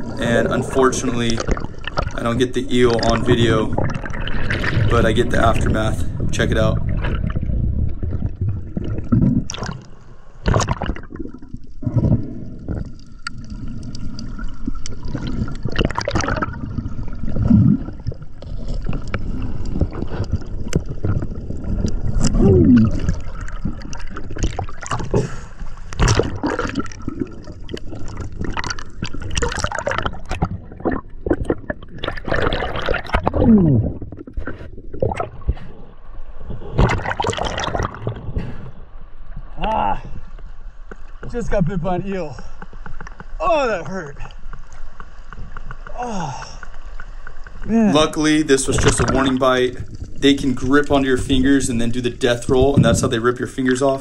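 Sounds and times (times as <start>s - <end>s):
underwater gurgling and sloshing: 0.0s - 54.0s
water lapping and splashing: 0.0s - 54.0s.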